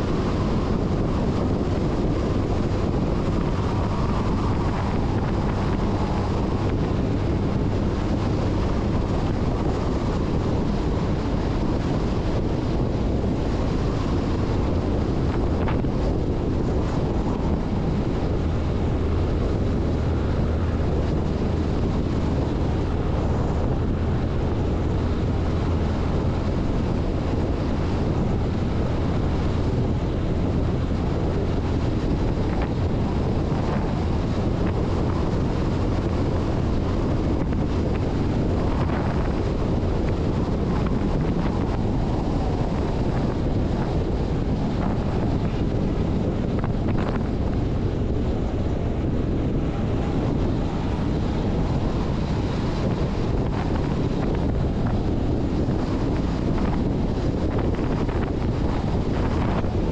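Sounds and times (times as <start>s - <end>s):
diesel truck engine hum: 0.0s - 59.9s
wind rushing over microphone: 0.0s - 59.9s.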